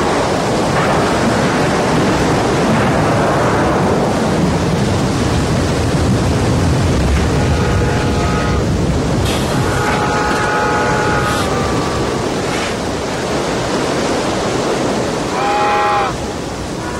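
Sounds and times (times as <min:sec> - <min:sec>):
rushing floodwater roar: 0:00.0 - 0:16.9.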